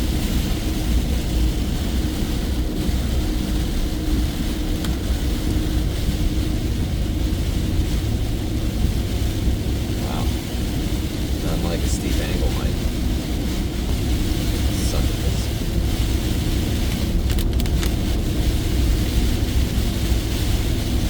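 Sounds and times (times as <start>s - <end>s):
engine and tyres rumbling: 0.0s - 21.0s
heavy rain on vehicle: 0.0s - 21.0s.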